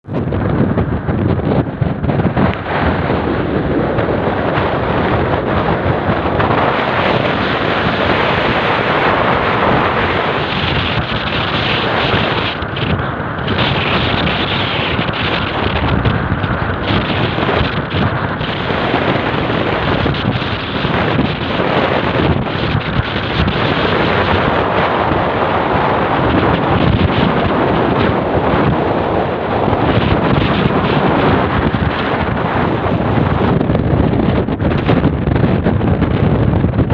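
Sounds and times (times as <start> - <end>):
strong wind buffeting microphone: 0.0 - 36.9.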